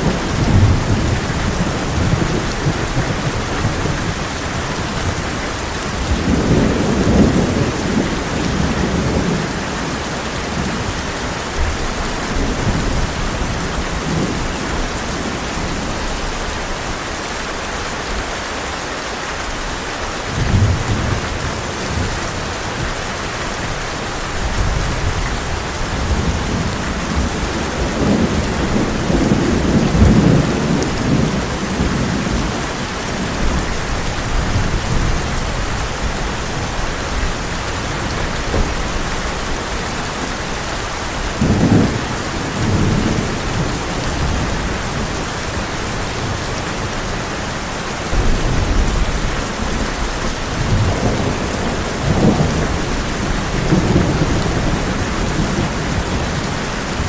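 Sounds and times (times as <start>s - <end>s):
thunder rumbling: 0.0s - 16.4s, 20.2s - 57.0s
heavy rain on a tin roof: 0.0s - 57.0s.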